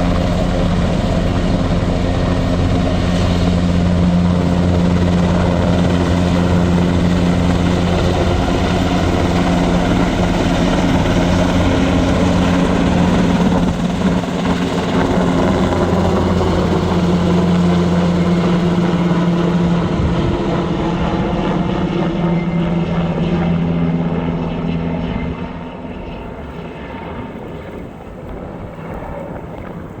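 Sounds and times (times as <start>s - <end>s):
helicopter rotors beating: 0.0s - 30.0s.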